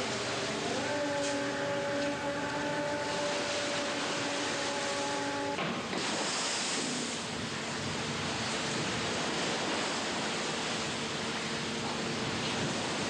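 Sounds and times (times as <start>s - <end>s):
sea water rushing: 0.0s - 13.0s
wind: 0.0s - 13.0s.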